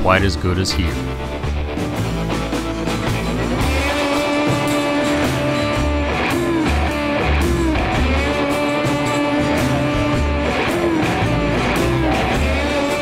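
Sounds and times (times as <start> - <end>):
guitar with bending notes: 0.0 - 13.0
steady bass beat: 1.1 - 13.0.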